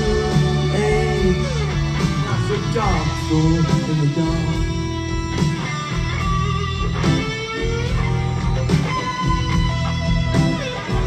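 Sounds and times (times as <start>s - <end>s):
electric guitar: 0.0s - 11.0s
rock band playing: 0.0s - 11.0s.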